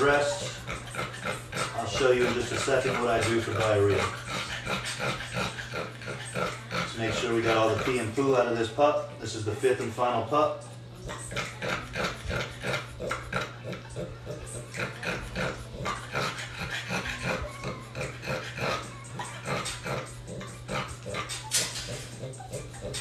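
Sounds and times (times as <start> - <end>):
dog panting: 0.0 - 23.0.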